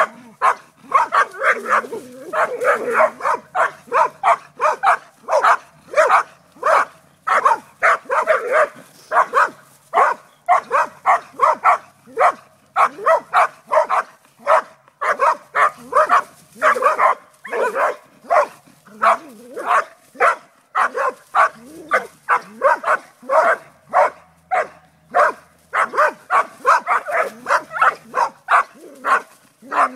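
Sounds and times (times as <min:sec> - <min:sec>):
dog barking rapidly: 0:00.0 - 0:29.9.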